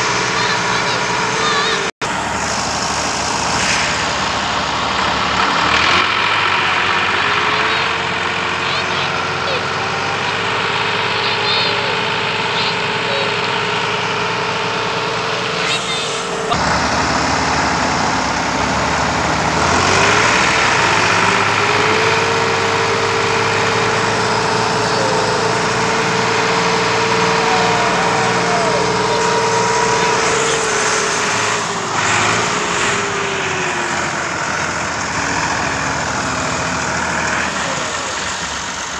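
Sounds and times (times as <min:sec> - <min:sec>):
diesel tractor engines under load: 0:00.0 - 0:38.9.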